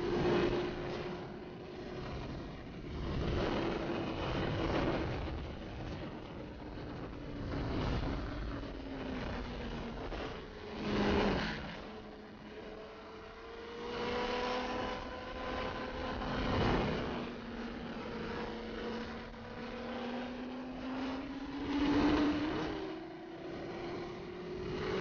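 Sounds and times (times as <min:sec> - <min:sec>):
wind rush: 0:00.0 - 0:12.0, 0:14.1 - 0:22.9
motorcycle engine cruising: 0:00.0 - 0:25.0.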